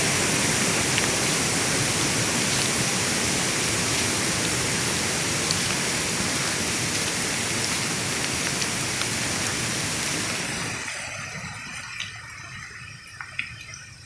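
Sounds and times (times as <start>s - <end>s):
heavy rain pouring: 0.0s - 14.0s
water drips: 0.0s - 14.0s.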